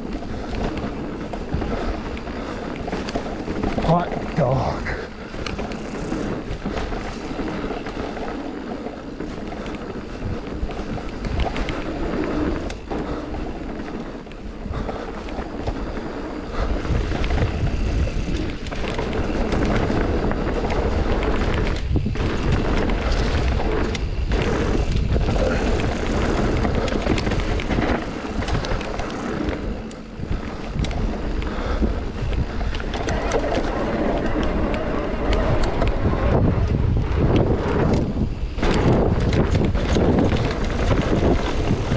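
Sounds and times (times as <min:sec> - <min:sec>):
bike tyres and frame rattling: 0:00.0 - 0:41.9
wind noise on microphone: 0:00.0 - 0:41.9.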